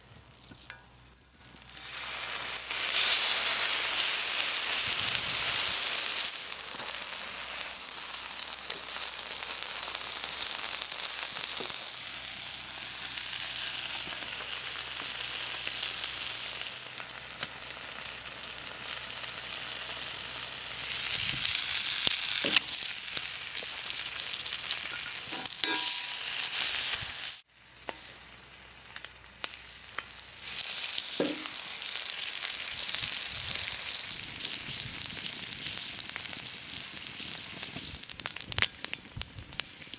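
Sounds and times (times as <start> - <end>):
food sizzling in a pan: 1.4 - 39.9.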